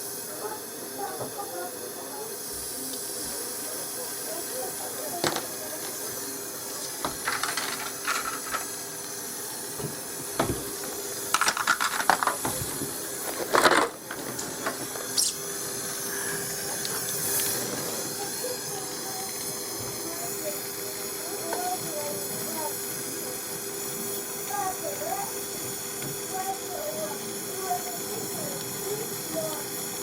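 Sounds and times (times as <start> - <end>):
steady gas hiss: 0.0 - 30.0.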